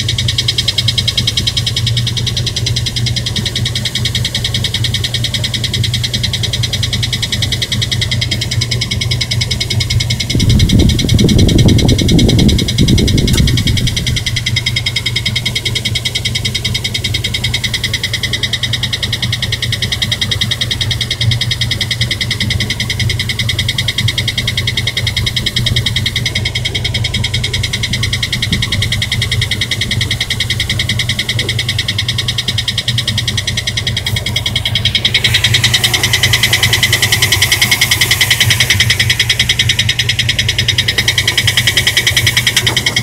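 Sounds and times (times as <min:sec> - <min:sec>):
engine hum: 0:00.0 - 0:43.0
rapid even ticking: 0:00.0 - 0:43.0.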